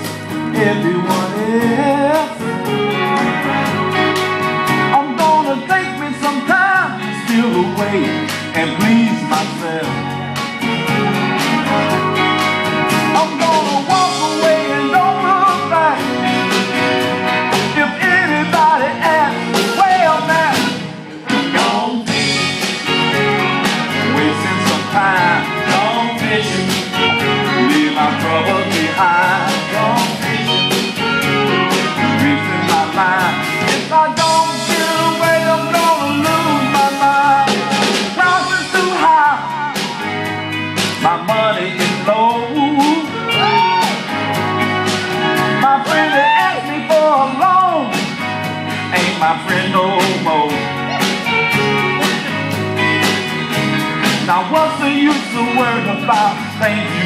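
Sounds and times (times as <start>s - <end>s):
live blues band music: 0.0s - 57.0s.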